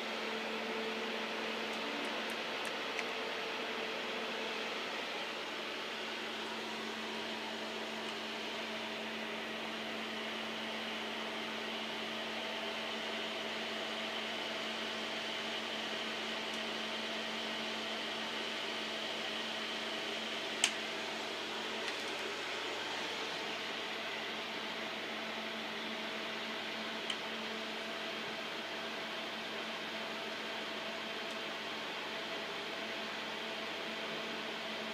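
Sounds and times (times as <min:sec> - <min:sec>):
cooling blower whirring: 0:00.0 - 0:34.9.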